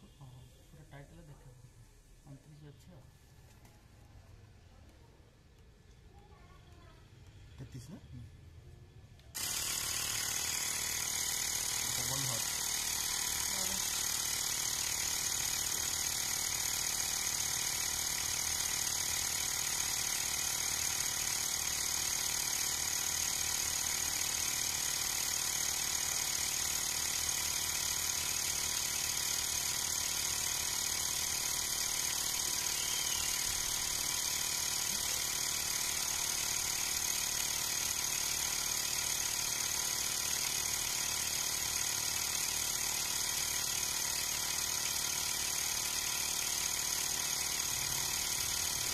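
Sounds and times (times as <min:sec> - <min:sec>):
electric air compressor running: 0:09.3 - 0:48.9.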